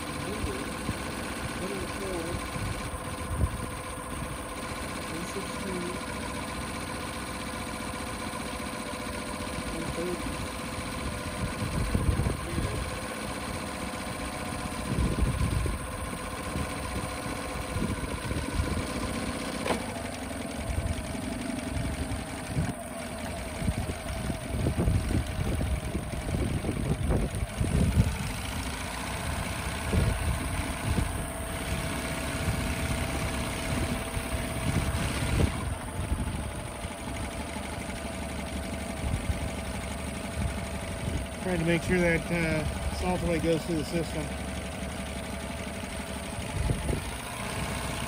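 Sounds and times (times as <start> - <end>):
outboard motor running: 0.0 - 48.0.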